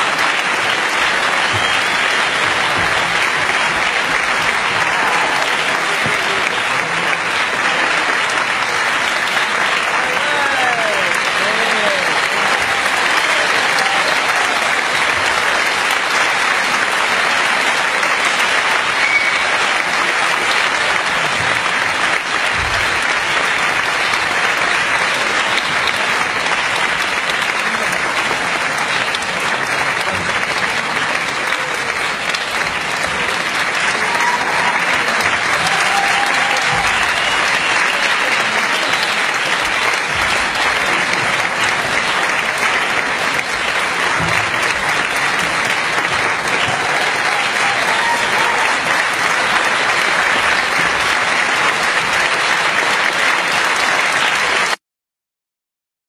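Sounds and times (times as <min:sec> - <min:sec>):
audience applause: 0:00.0 - 0:54.8.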